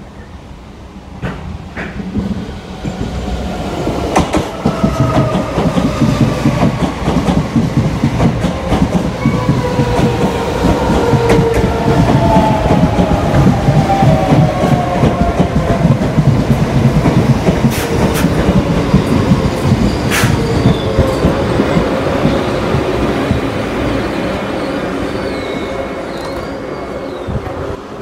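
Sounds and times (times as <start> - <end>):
electric train passing: 0.4 - 28.0.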